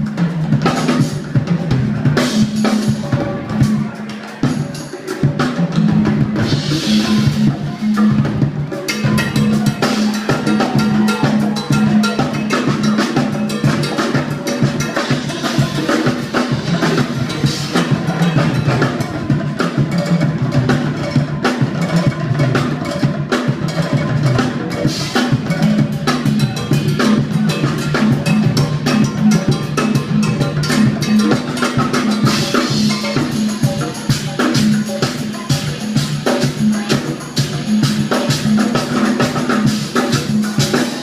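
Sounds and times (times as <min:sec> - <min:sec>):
fast drum kit playing: 0:00.0 - 0:41.0.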